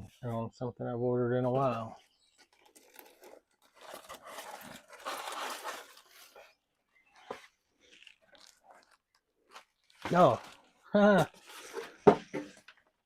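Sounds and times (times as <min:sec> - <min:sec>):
packaging rustling and crinkling: 0:01.6 - 0:12.7.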